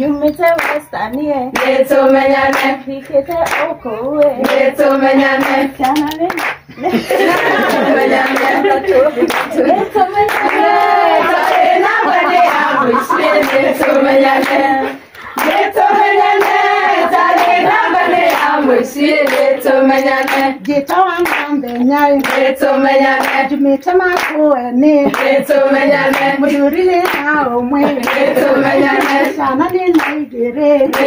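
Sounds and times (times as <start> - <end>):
women singing together: 0.0 - 31.0
hands clapping in rhythm: 0.1 - 31.0.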